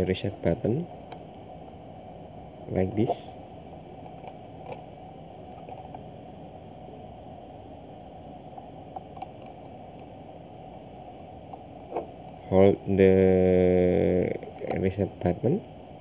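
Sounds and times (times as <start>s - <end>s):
low room noise: 0.0s - 16.0s.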